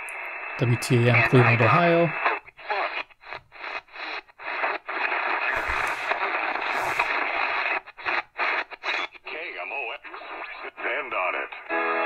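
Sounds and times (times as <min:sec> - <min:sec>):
muffled am radio audio: 0:00.0 - 0:12.0
radio station snatches: 0:00.6 - 0:11.1.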